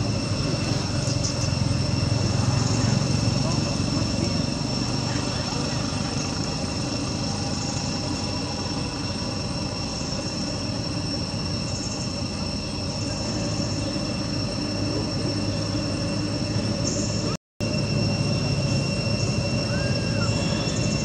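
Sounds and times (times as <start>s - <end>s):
constant high-pitched tones: 0.0s - 21.0s.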